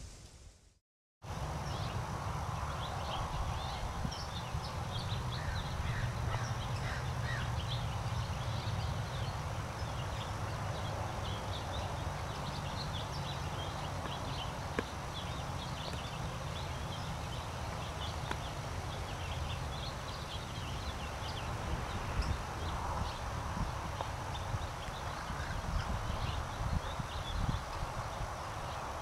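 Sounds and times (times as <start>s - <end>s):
birds chirping: 1.3s - 29.0s.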